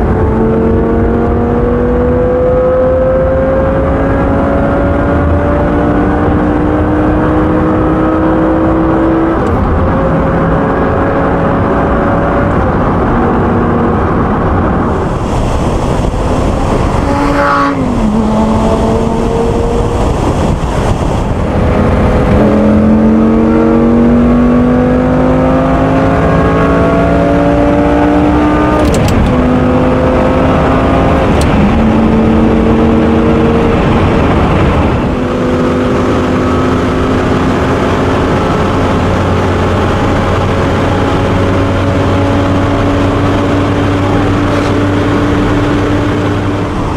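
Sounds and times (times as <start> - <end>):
sports car engine accelerating: 0.0 - 46.9.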